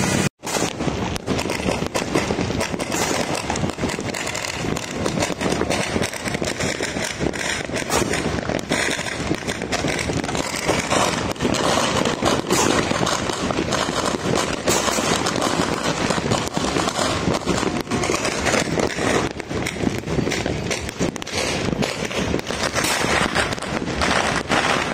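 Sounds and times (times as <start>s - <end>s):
fireworks crackling and banging: 0.0s - 24.9s.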